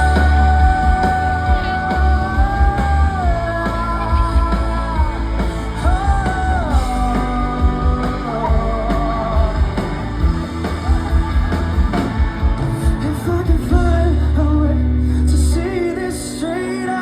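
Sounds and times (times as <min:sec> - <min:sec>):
man singing: 0:00.0 - 0:17.0
rock band playing: 0:00.0 - 0:17.0.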